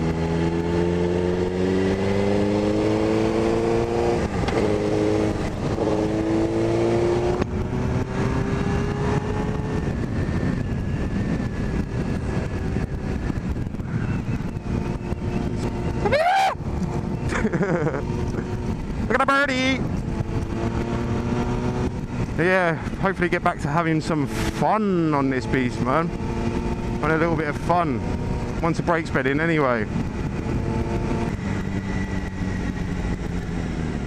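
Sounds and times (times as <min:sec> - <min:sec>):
motorcycle engine revving: 0:00.0 - 0:34.0
wind and road noise: 0:00.0 - 0:34.0.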